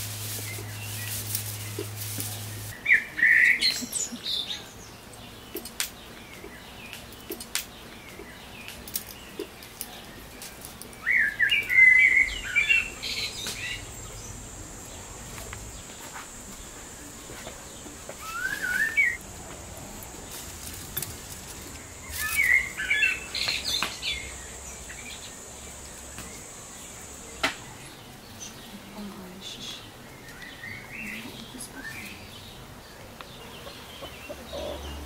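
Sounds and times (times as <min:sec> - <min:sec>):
songbird chirping: 0:00.2 - 0:35.0.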